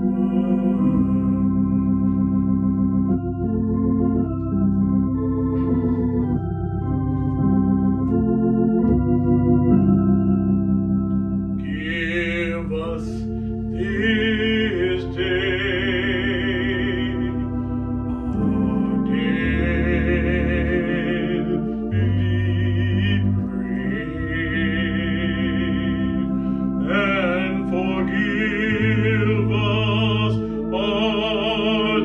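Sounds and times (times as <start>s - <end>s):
organ playing sustained chords: 0.0s - 32.0s
wavering vibrato organ line: 0.0s - 32.0s.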